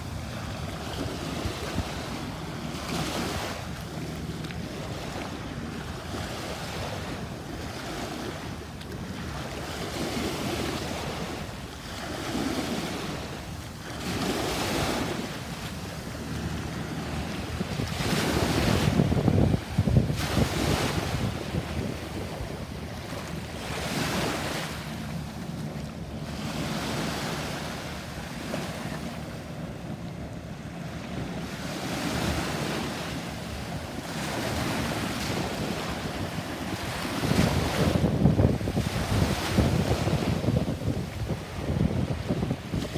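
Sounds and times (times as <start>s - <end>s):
small waves breaking on sand: 0.0s - 42.9s
wind buffeting microphone: 0.0s - 42.9s.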